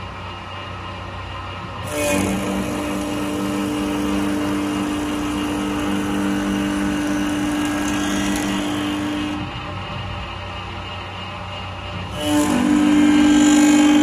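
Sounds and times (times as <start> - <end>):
lathe motor hum: 0.0 - 14.0.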